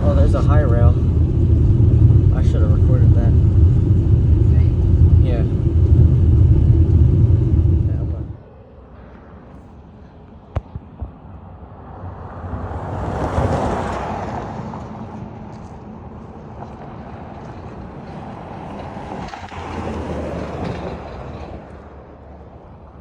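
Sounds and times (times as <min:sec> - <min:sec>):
freight train wheels rumbling: 0:00.0 - 0:08.5, 0:13.0 - 0:23.0.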